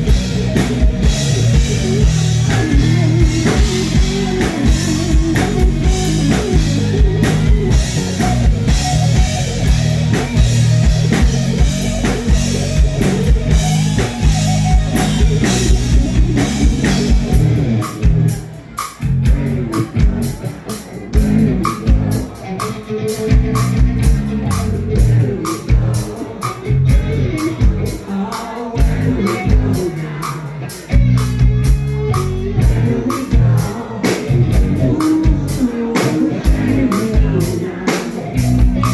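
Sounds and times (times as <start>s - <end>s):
person singing: 0.0s - 10.2s, 12.0s - 38.9s
drum kit: 0.0s - 38.9s
electric guitar: 0.0s - 38.9s.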